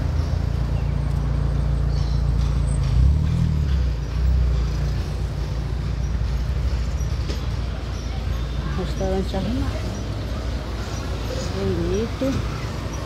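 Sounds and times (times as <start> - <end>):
car traffic rumble: 0.0 - 13.0.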